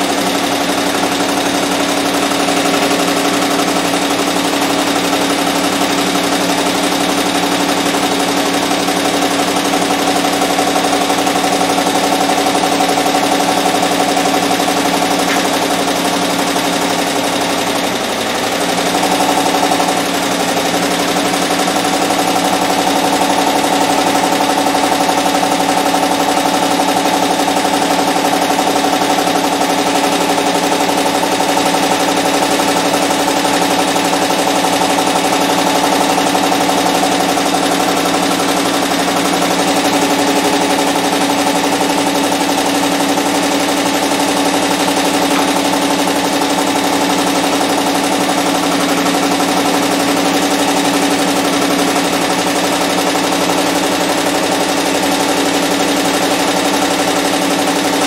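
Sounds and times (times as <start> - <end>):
embroidery machine stitching: 0.0 - 58.0.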